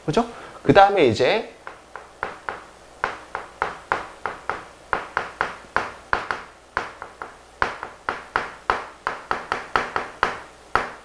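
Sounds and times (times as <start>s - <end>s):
chalk tapping and scraping on board: 1.6s - 11.0s.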